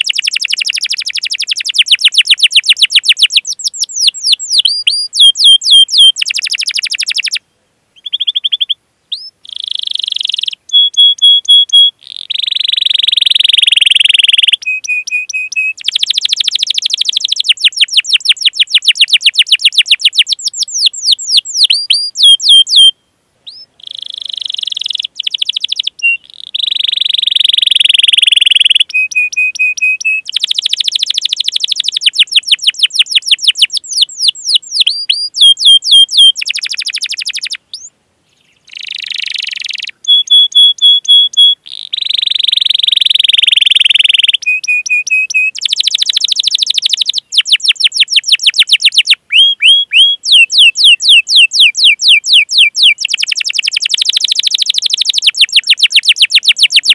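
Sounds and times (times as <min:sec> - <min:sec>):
canary singing: 0:00.0 - 0:07.4, 0:08.0 - 0:56.9.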